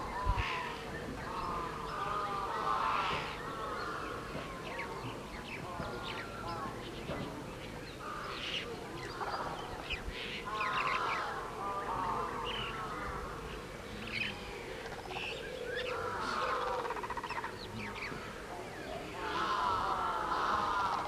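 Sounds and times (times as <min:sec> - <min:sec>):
birds calling and chirping: 0:00.0 - 0:21.0.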